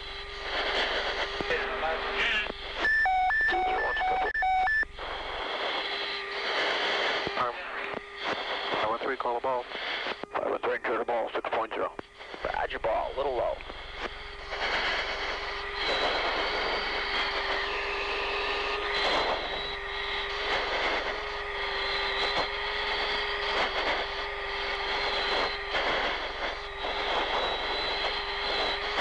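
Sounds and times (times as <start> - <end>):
jet engine rushing and whining: 0.0 - 29.0.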